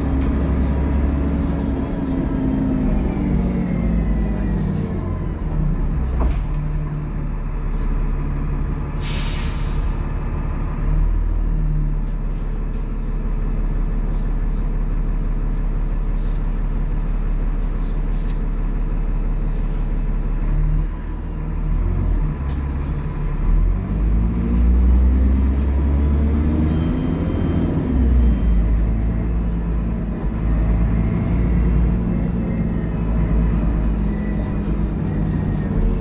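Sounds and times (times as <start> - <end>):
bus diesel engine under load: 0.0 - 36.0.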